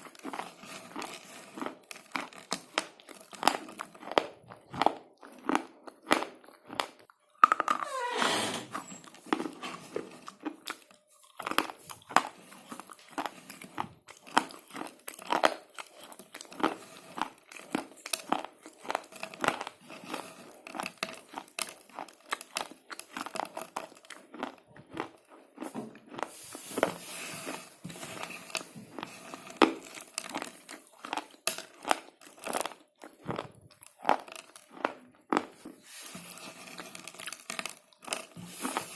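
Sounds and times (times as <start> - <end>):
slate pencils being chewed: 0.0 - 8.0, 8.7 - 38.9.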